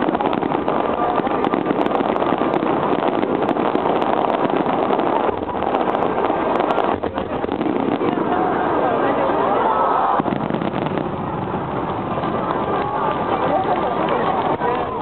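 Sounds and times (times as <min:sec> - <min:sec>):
distant fireworks crackling: 0:00.0 - 0:15.0.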